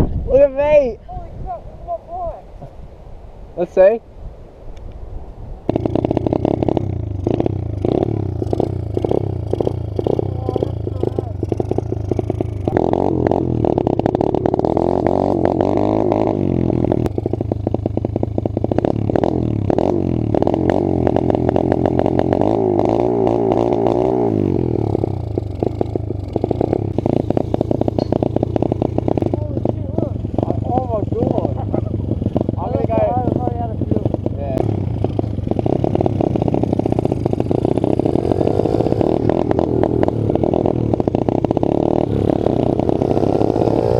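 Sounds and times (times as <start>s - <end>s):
small motorbike engine revving: 5.7s - 43.9s.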